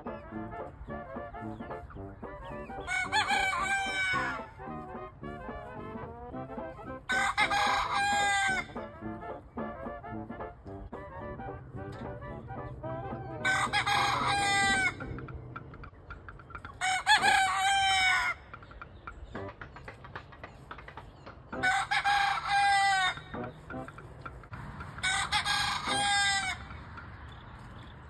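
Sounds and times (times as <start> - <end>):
faint chicken clucks: 0.0 - 28.0
roosters crowing: 0.0 - 28.0.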